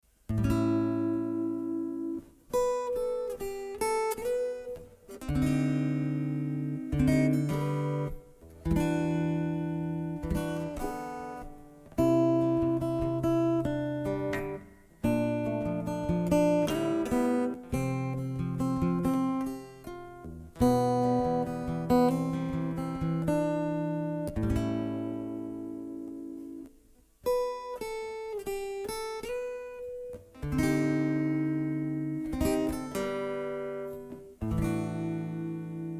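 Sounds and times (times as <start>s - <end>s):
acoustic guitar chords: 0.3s - 35.9s.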